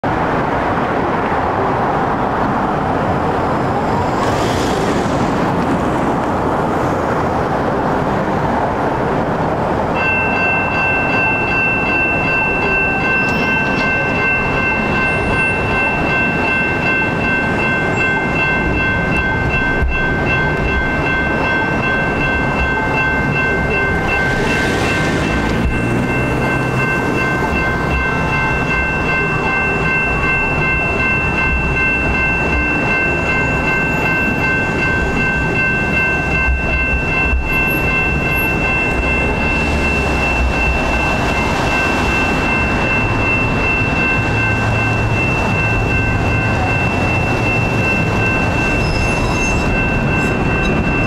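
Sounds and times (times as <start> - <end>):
road traffic noise: 0.0 - 51.0
railroad crossing bell ringing: 0.1 - 51.0.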